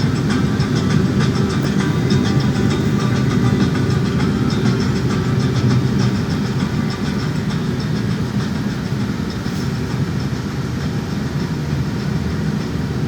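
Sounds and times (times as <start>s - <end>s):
jet engines and wheels rumbling: 0.0s - 13.0s.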